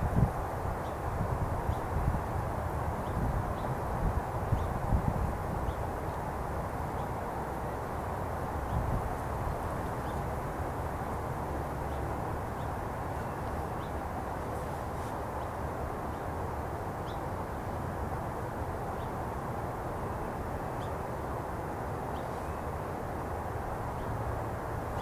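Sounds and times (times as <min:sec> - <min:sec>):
low outdoor rumble and hiss: 0:00.0 - 0:25.0.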